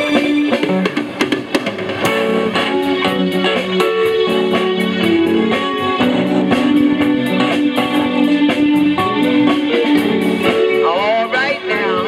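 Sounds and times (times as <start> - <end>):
band music with electric guitar: 0.0 - 12.0.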